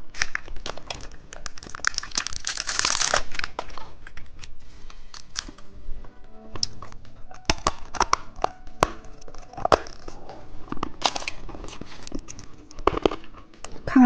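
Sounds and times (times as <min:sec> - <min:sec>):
plastic packaging crinkling: 0:00.0 - 0:05.7, 0:06.6 - 0:13.8.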